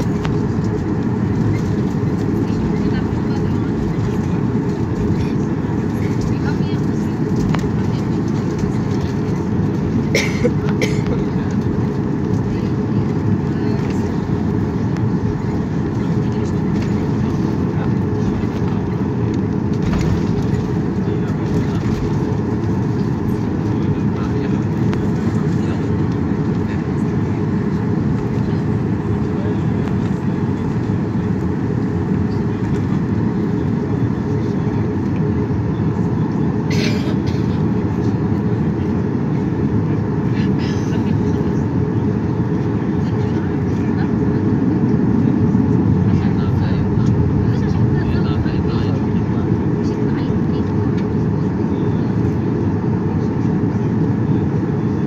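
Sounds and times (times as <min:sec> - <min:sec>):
jet engines low rumble: 0:00.0 - 0:55.0.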